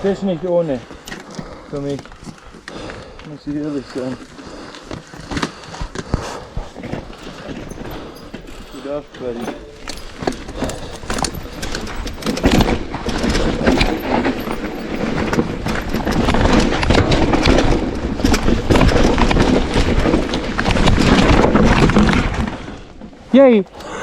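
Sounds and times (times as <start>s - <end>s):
bike tyres rolling over dirt and stones: 0.0s - 23.6s.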